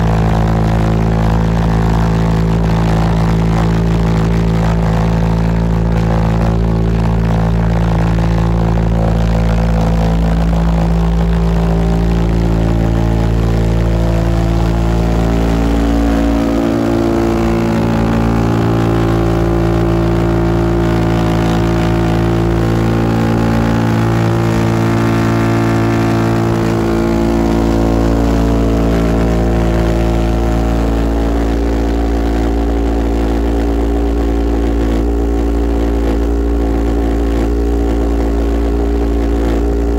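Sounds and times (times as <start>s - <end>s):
pulsejet engine droning: 0.0s - 39.9s.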